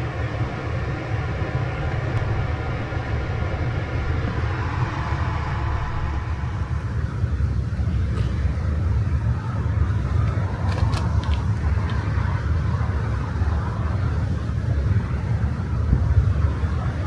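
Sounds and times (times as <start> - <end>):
vehicle interior road noise: 0.0 - 17.0.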